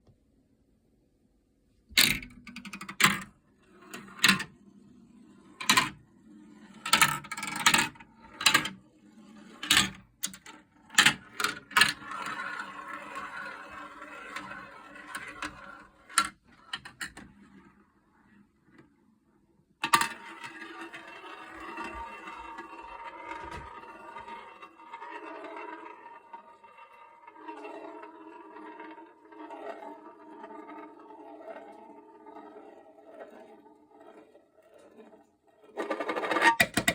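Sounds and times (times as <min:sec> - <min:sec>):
marbles rattling down marble run: 0:02.0 - 0:04.6, 0:05.4 - 0:17.3, 0:19.8 - 0:36.9.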